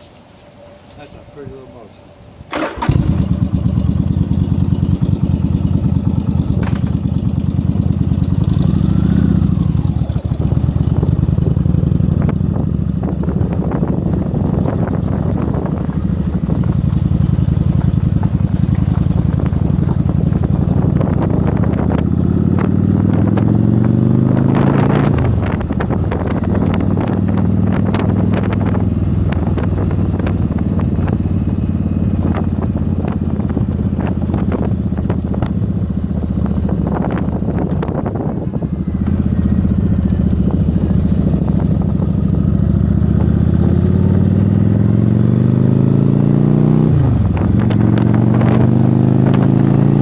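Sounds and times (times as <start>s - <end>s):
motorcycle engine idling and revving: 0.0s - 50.0s.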